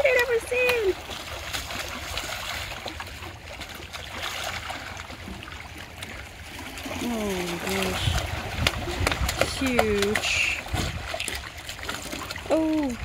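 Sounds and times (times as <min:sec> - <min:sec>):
fish thrashing in shallow water: 0:00.0 - 0:13.0
water lapping against rocks: 0:00.0 - 0:13.0.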